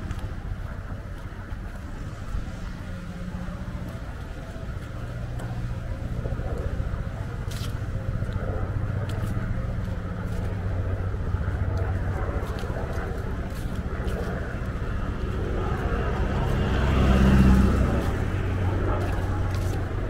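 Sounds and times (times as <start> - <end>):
car engine and tyres humming: 0.0 - 20.0.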